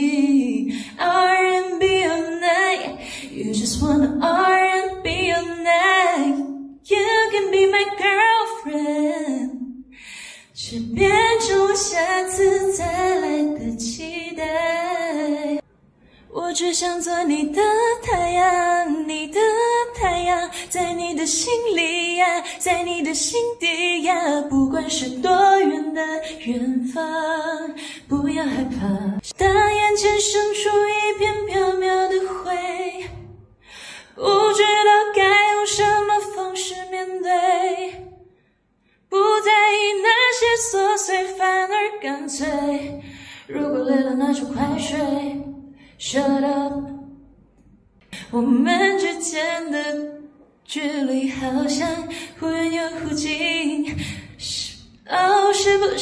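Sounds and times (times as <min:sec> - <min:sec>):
woman singing a cappella: 0:00.0 - 0:15.7, 0:16.3 - 0:38.3, 0:39.1 - 0:47.2, 0:48.1 - 0:56.0.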